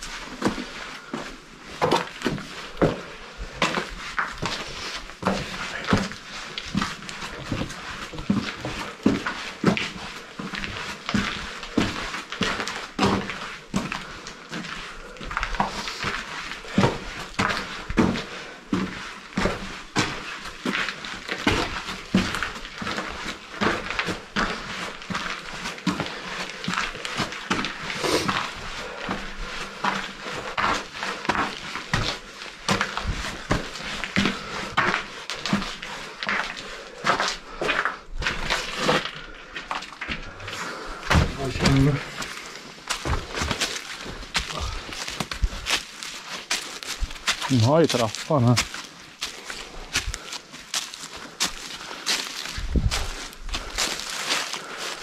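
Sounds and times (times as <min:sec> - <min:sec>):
footsteps crunching on gravel: 0:00.0 - 0:55.0.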